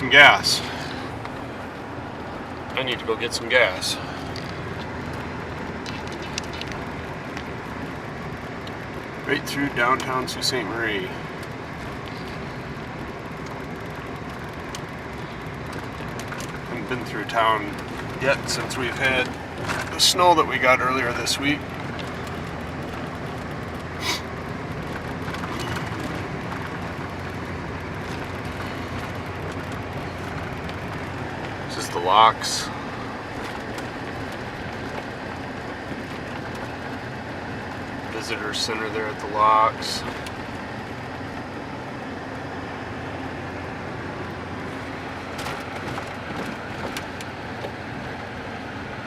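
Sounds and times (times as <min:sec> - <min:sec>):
truck road drone from inside: 0:00.0 - 0:49.0.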